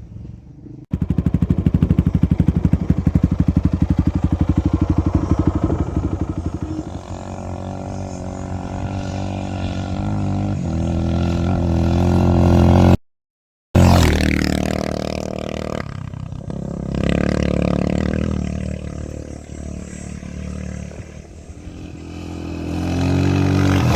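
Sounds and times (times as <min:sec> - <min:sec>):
dirt bike engine running: 0:00.9 - 0:13.0, 0:13.8 - 0:23.9.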